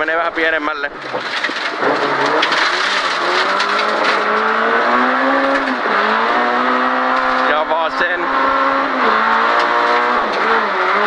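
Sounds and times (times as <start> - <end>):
tyres on gravel road: 0.0 - 11.0
car engine accelerating: 1.2 - 11.0.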